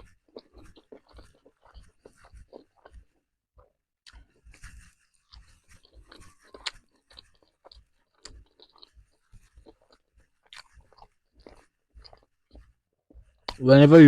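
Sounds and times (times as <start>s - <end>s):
person chewing with crunches: 0.0s - 13.6s.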